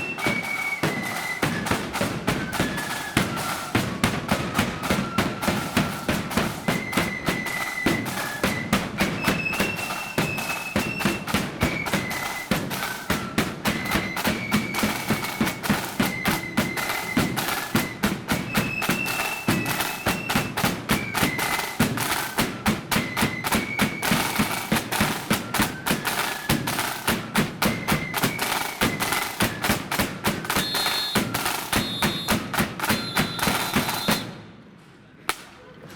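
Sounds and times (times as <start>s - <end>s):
flutes playing melody: 0.0s - 34.4s
marching drums beating: 0.0s - 34.5s.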